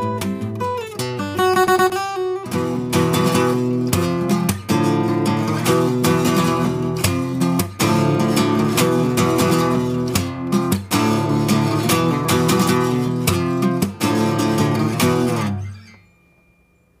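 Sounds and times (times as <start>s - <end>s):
fingerstyle acoustic guitar: 0.0s - 16.4s.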